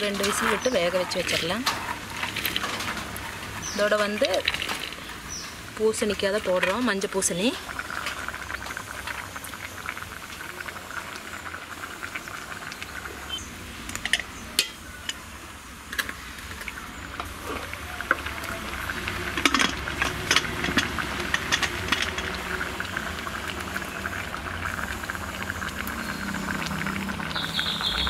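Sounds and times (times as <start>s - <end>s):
pot bubbling: 0.0s - 28.0s.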